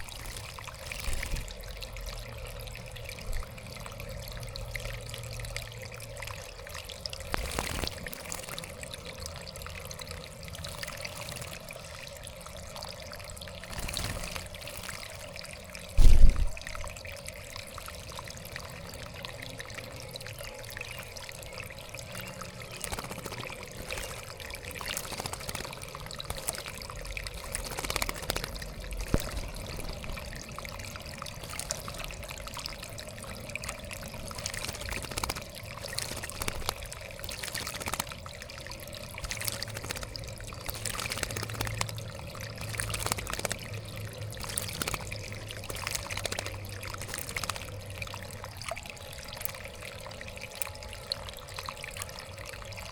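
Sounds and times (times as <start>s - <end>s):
water trickling and splashing: 0.0s - 52.9s.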